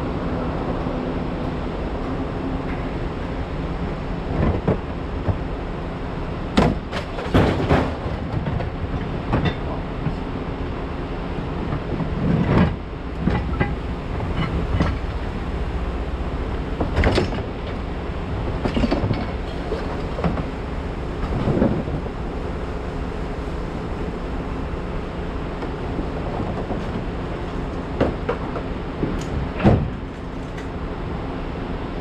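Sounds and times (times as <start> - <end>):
heavy engine running: 0.0 - 32.0.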